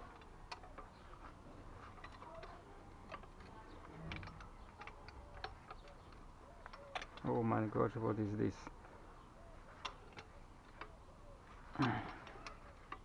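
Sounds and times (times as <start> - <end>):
light clicks of handled fittings: 0.0 - 13.0.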